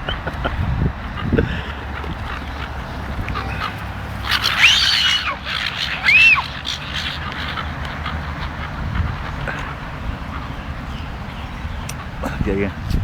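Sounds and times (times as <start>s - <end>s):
seagulls calling: 0.0s - 12.9s.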